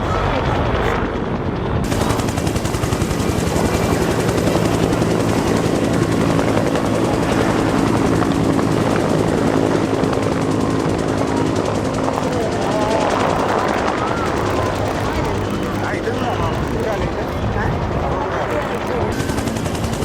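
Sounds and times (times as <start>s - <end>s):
helicopter rotor chopping: 0.0s - 20.0s.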